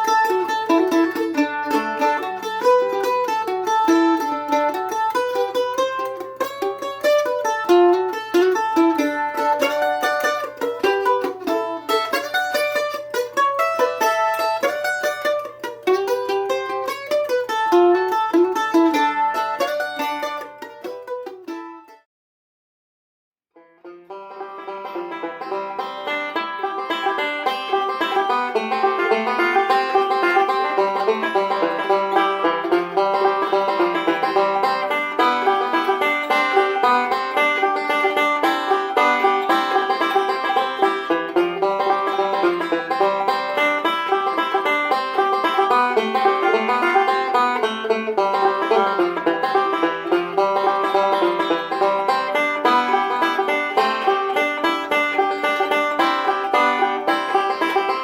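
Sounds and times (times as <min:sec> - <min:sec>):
fast plucked banjo music: 0:00.0 - 0:22.0, 0:23.6 - 0:58.0.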